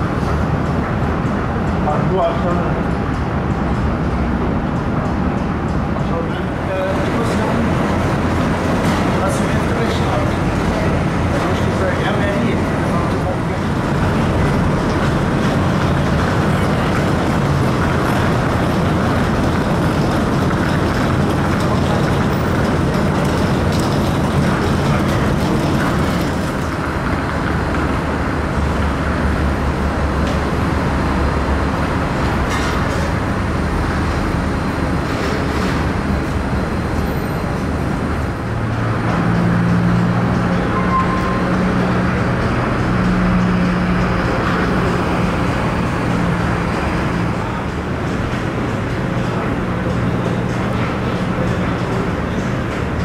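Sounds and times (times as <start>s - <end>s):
truck engine and spraying: 6.1s - 53.0s.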